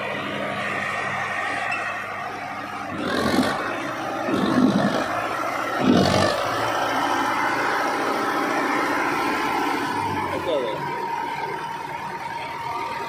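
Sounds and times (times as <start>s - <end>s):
diesel tractor engine revving: 0.0s - 13.0s.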